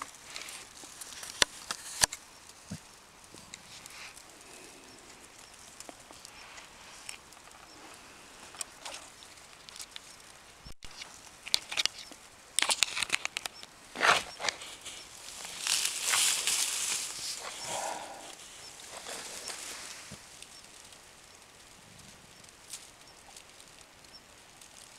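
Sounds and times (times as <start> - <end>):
dry grass and twigs crackling: 0.0 - 24.9.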